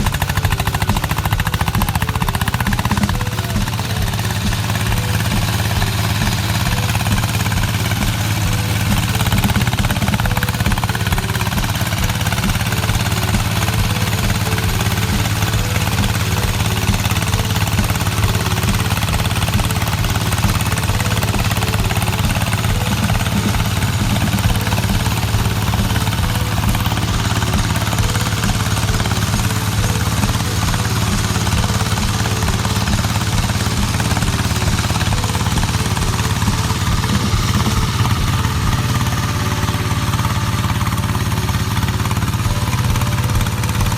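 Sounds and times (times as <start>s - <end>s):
tractor engine chugging: 0.0s - 43.9s.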